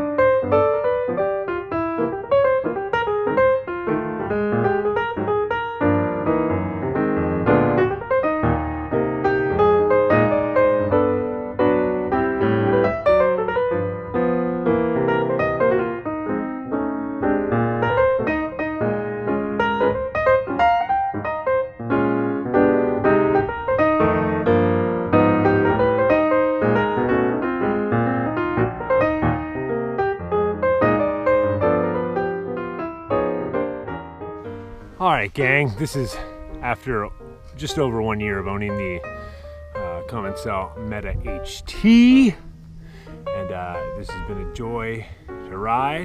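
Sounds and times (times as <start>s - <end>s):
fast piano music: 0.0s - 46.0s.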